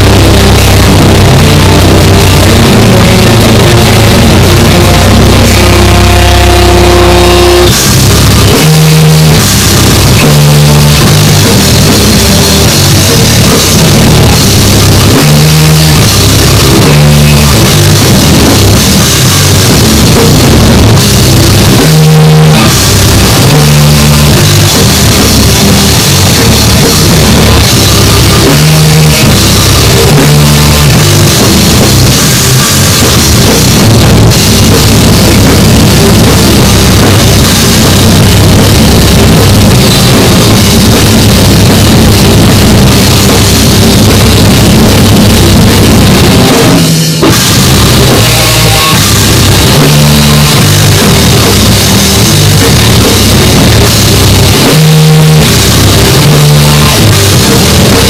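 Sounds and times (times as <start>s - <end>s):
drum kit: 0.0s - 58.0s
electric guitar riff: 0.0s - 58.0s.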